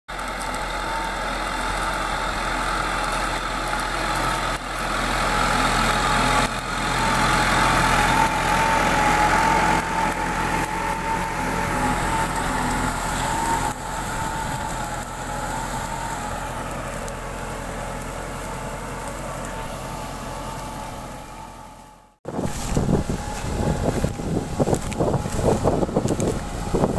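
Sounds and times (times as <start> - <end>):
constant whine: 0.1 - 26.9
tractor diesel engine running: 0.1 - 26.9.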